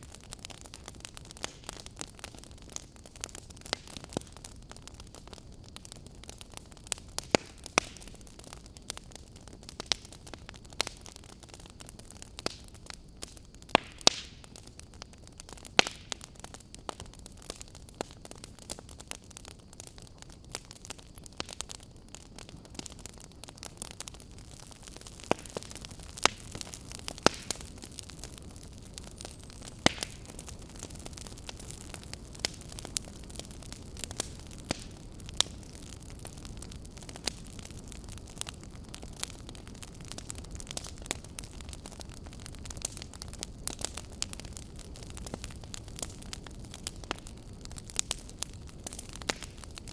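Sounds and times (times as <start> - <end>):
burning wood crackling and popping: 0.0 - 49.9
campfire flames hissing: 0.0 - 49.9.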